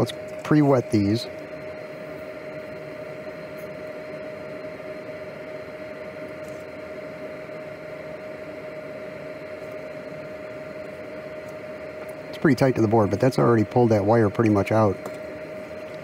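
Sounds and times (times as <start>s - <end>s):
extractor fan running: 0.0s - 16.0s.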